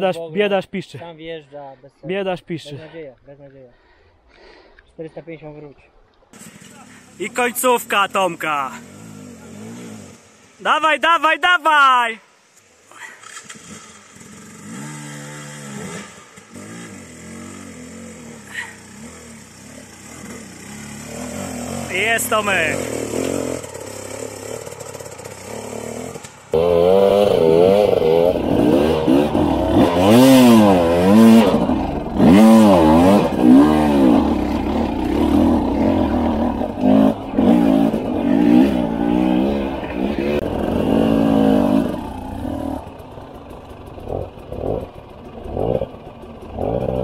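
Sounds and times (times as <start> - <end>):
dirt bike engine revving: 6.4 - 10.5, 13.2 - 47.0.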